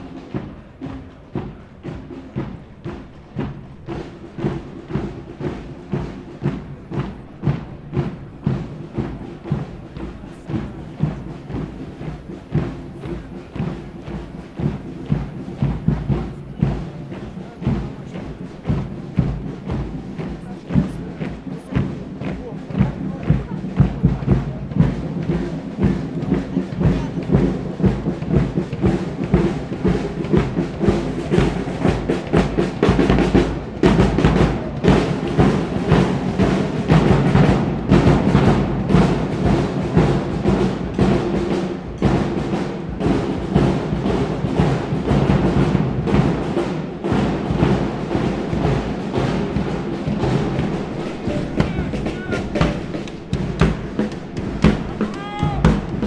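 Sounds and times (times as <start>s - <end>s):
drums keeping a steady beat: 0.0s - 56.0s
military band playing a march: 0.0s - 56.0s.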